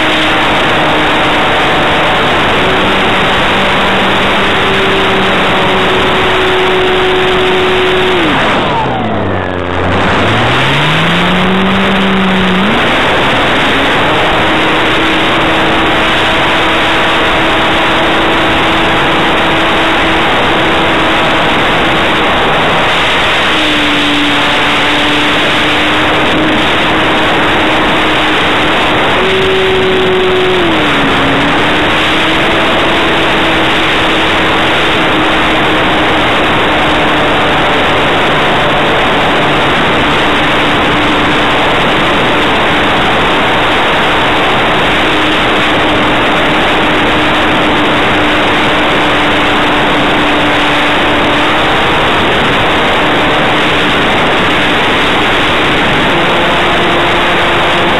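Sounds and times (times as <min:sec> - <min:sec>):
electric motor hum: 0:00.0 - 0:52.6
wind and propeller hiss: 0:00.0 - 0:57.9.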